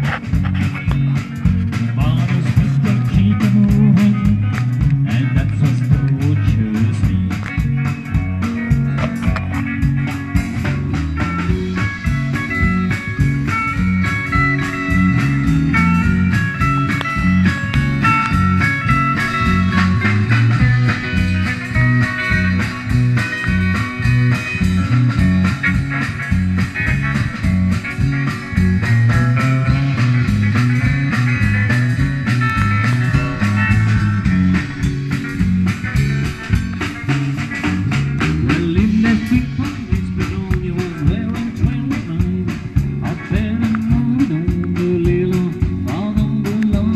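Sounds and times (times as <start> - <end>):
electric bass: 0.0 - 46.9
electric guitars: 0.0 - 46.9
steady drum beat: 0.0 - 46.9.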